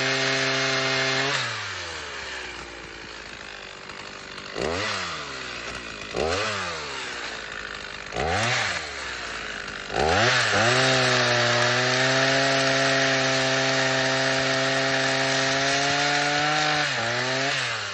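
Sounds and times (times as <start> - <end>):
chainsaw cutting wood: 0.0 - 17.9
chainsaw revving: 0.0 - 17.9.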